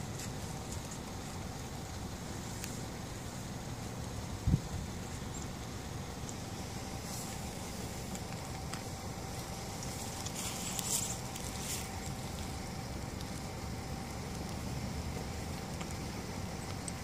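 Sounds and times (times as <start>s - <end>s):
crackly rustling: 0.0s - 17.0s
faint steady hum: 0.0s - 17.0s
low outdoor rumble: 0.0s - 17.0s.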